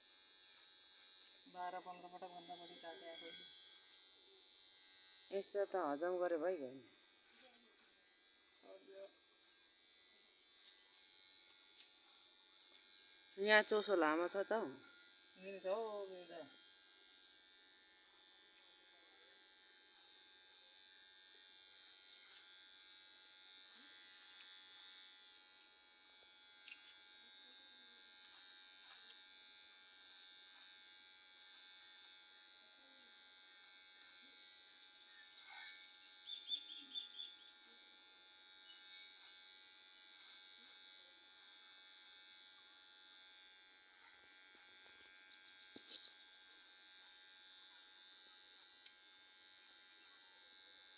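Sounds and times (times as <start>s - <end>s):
electric hair clipper buzzing: 0.0s - 50.9s.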